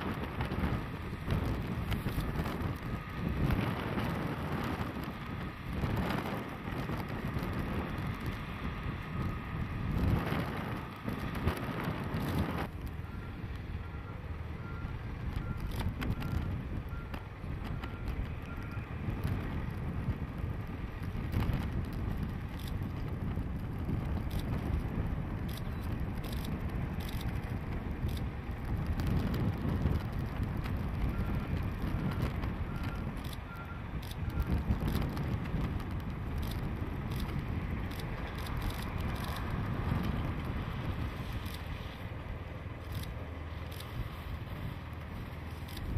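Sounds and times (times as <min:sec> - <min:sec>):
snowplow locomotive rumbling: 0:00.0 - 0:45.9
wind on microphone: 0:00.0 - 0:45.9.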